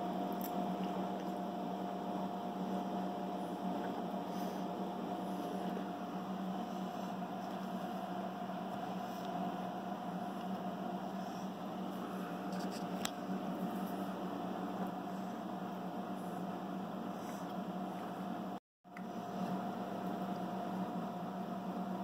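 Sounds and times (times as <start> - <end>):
electric fan humming: 0.0 - 22.0.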